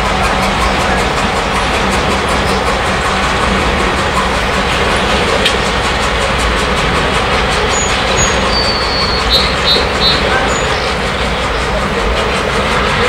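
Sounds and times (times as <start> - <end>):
diesel locomotive engines throbbing: 0.0 - 13.0.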